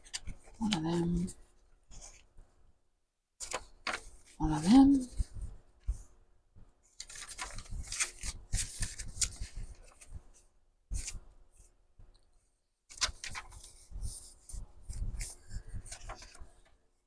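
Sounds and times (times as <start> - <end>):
paper rustling and shuffling: 0.0 - 2.4, 3.4 - 6.2, 6.8 - 12.2, 12.9 - 16.8.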